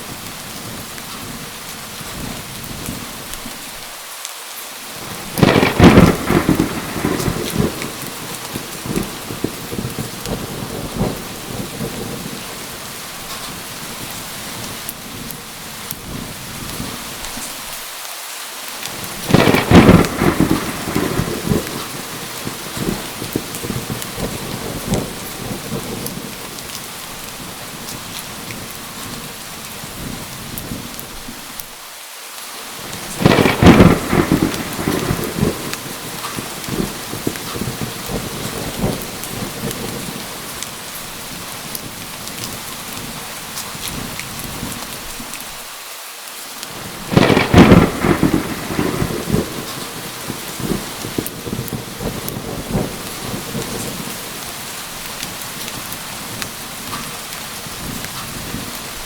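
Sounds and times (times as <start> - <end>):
steady rain falling: 0.0 - 59.0
low rumble of thunder: 5.0 - 17.4, 19.0 - 31.4, 32.8 - 45.3, 46.7 - 59.0.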